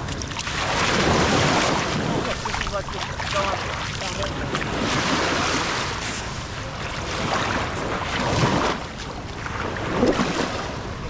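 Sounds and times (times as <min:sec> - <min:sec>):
small waves breaking on shore: 0:00.0 - 0:11.0.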